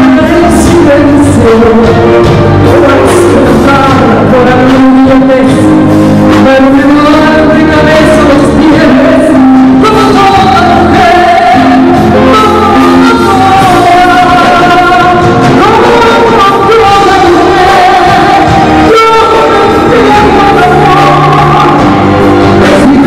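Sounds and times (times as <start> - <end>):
instrumental accompaniment: 0.0 - 23.0
person singing long notes: 0.0 - 23.0.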